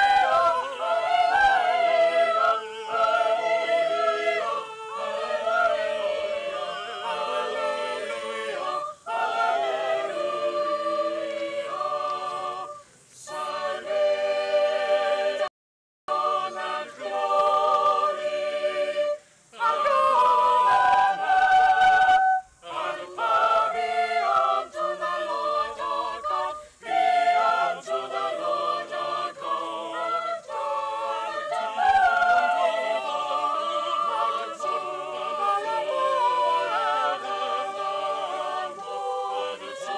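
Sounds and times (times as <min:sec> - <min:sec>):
choir singing: 0:00.0 - 0:15.5, 0:16.1 - 0:39.9.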